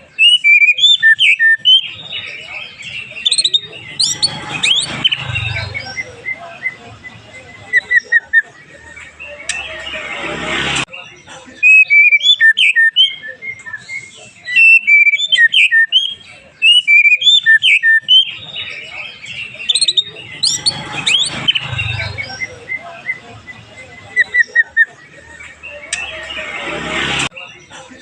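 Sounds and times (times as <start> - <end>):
bird whistling song: 0.0 - 10.0, 11.6 - 26.4.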